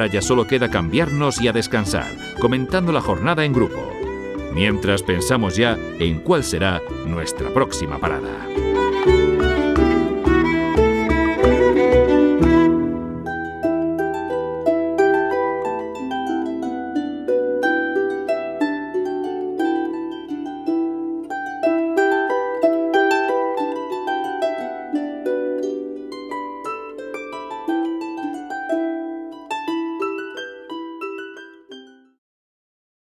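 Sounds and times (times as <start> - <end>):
plucked string music: 0.0 - 32.2.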